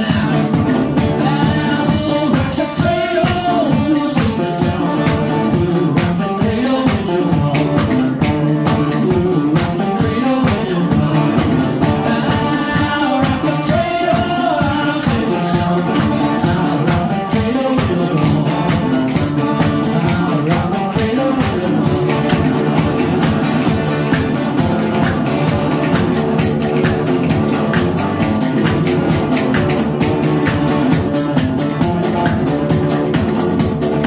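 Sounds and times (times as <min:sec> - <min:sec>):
live string band playing: 0:00.0 - 0:34.0
resonator guitar: 0:00.0 - 0:34.0.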